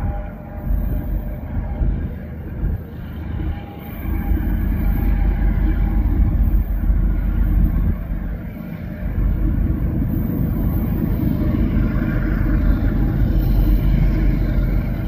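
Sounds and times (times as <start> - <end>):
diesel locomotive engines rumbling: 0.0 - 15.0.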